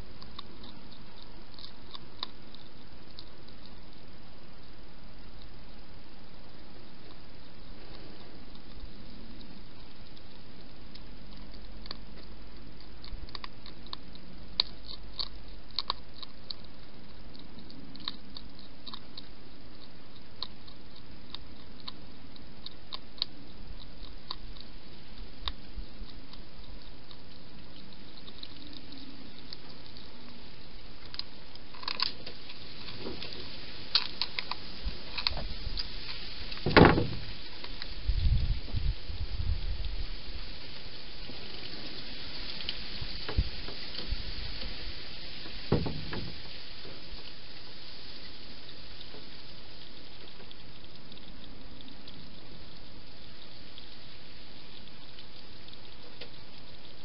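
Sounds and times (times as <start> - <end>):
hedgehogs crunching dry food: 0.0 - 57.0
steady hiss: 0.0 - 57.0.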